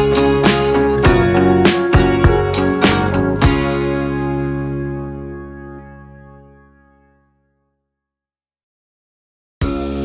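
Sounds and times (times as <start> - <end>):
background music held chord: 0.0 - 7.7, 9.6 - 10.0.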